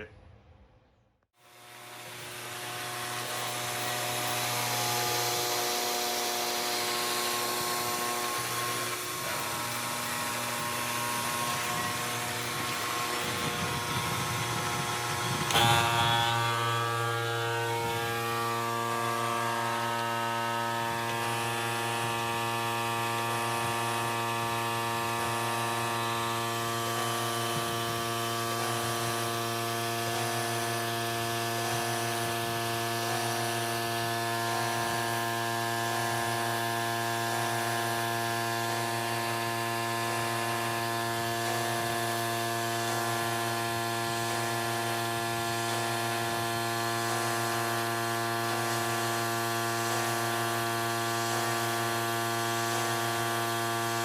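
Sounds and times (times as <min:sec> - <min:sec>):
milling machine motors humming: 0:01.4 - 0:54.0.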